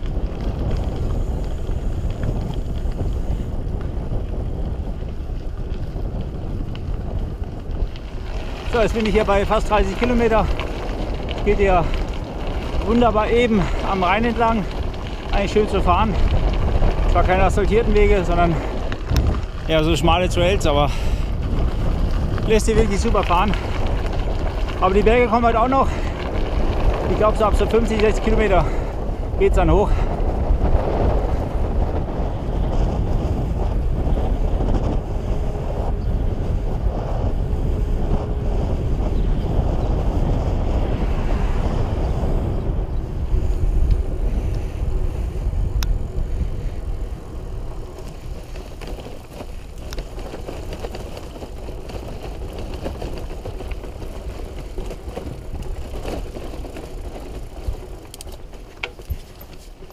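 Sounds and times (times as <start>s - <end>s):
bike tyres rolling on trail: 0.0s - 59.9s
wind buffeting microphone: 0.0s - 59.9s.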